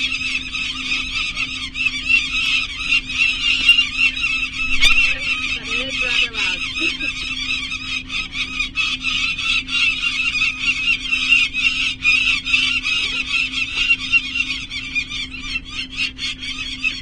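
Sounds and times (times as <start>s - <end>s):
falcon harsh alarm calls: 0.0s - 17.0s
steady low hum: 0.0s - 17.0s.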